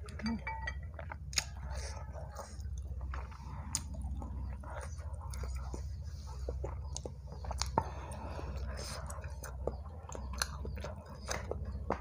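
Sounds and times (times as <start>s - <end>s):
low steady hum: 0.0s - 12.0s
person chewing: 0.0s - 12.0s.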